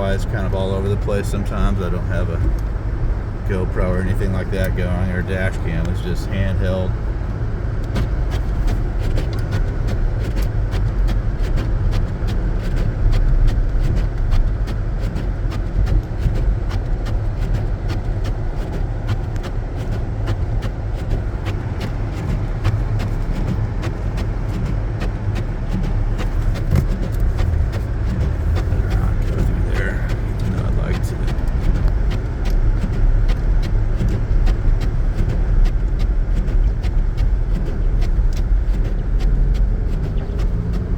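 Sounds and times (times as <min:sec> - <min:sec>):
engine and tyres rumbling: 0:00.0 - 0:40.9.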